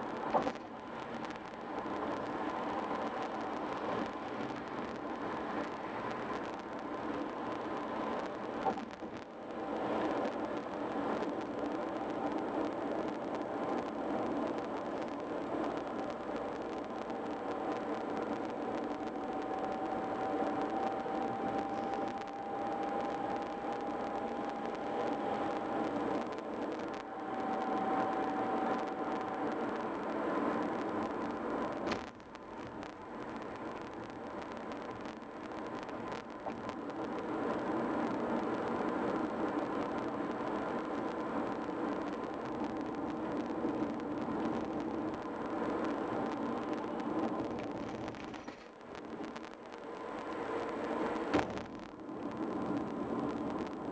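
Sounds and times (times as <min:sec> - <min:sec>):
car road noise from inside: 0:00.0 - 0:53.9
faint steady whine: 0:00.0 - 0:53.9.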